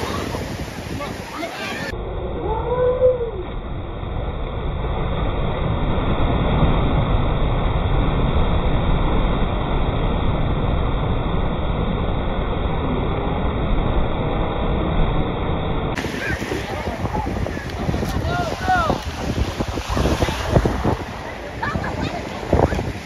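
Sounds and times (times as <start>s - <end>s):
ocean surf rushing: 0.0s - 23.0s
wind buffeting microphone: 0.0s - 23.0s.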